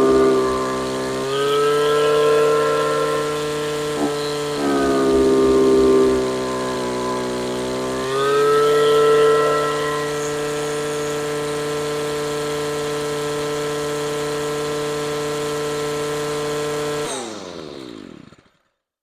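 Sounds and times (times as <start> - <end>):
string trimmer engine running: 0.0 - 18.7.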